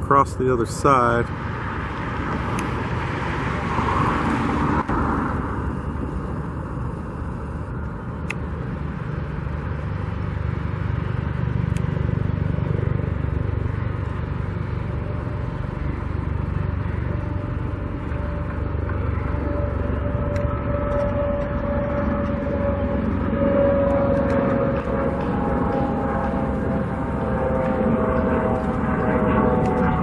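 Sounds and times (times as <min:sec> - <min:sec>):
vehicle passing by: 0:00.0 - 0:07.1, 0:09.3 - 0:30.0
road traffic rumble: 0:00.0 - 0:30.0.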